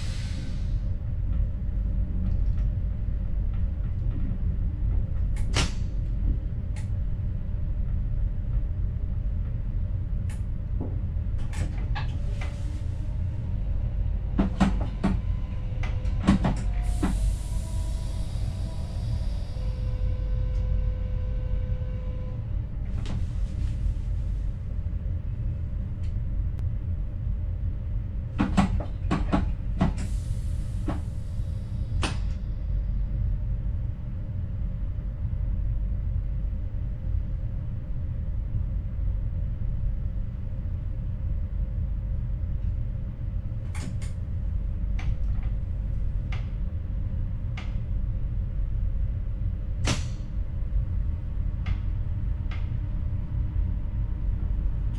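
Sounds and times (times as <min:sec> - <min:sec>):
faint hum: 0:00.0 - 0:54.9
train running rumble: 0:00.0 - 0:54.9.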